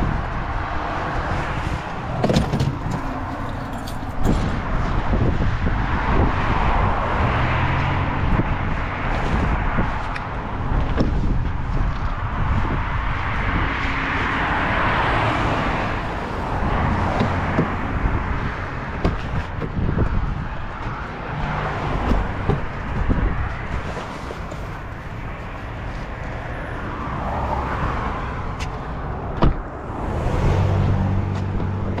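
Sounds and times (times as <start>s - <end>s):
vehicle engine humming: 0.0s - 6.0s, 6.6s - 32.0s
road and wind noise: 0.0s - 32.0s.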